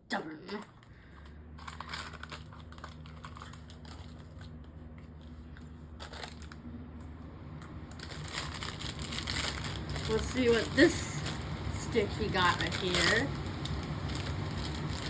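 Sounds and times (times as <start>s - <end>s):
low steady hum: 0.0s - 15.0s
plastic packaging crinkling: 0.5s - 6.7s, 7.8s - 15.0s.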